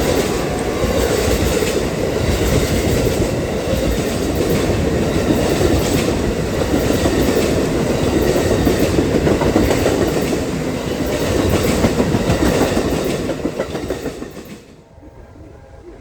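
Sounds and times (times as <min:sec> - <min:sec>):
train wheels clicking on rail joints: 0:00.0 - 0:14.8
train passing: 0:00.0 - 0:16.0.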